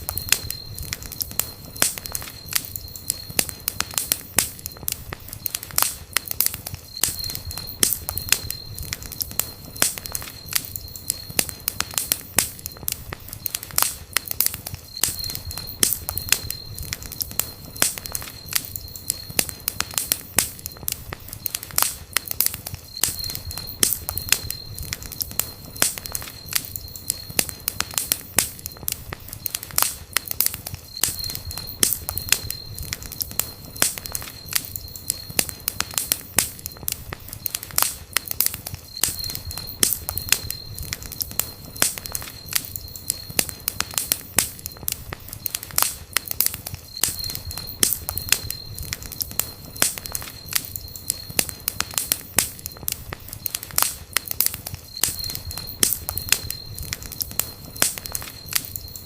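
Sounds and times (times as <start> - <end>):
thin high whistle: 0.0 - 13.9, 22.5 - 59.0
campfire crackling and popping: 0.0 - 59.0
low rumble of flames: 0.0 - 59.0.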